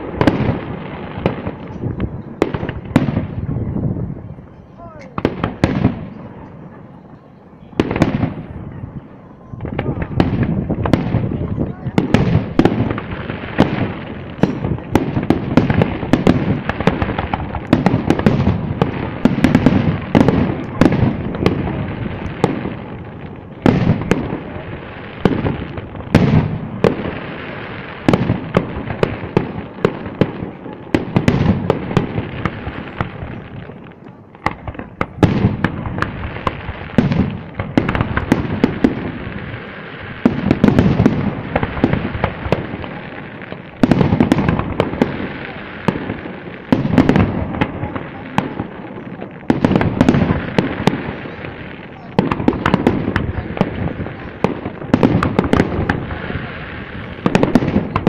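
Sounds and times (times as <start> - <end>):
fireworks bursting bangs: 0.0 - 58.0.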